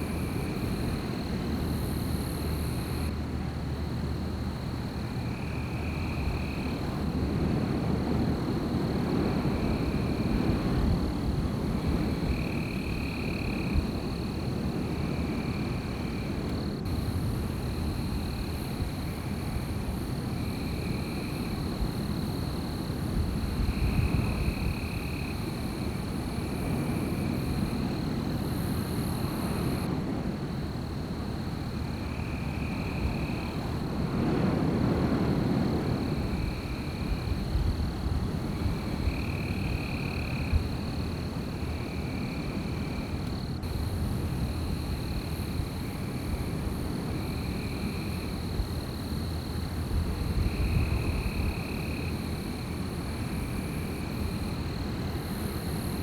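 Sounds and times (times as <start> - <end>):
night insects trilling: 0.0 - 56.0
wind gusting through trees: 0.0 - 56.0.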